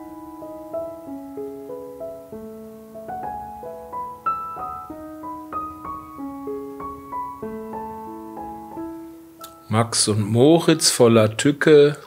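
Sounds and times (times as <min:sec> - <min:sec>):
solo piano melody: 0:00.0 - 0:12.0.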